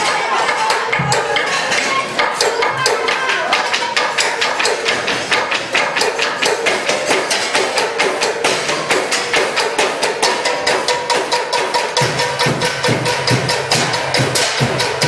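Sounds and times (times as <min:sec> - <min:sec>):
fast sharp percussive knocks: 0:00.0 - 0:15.0.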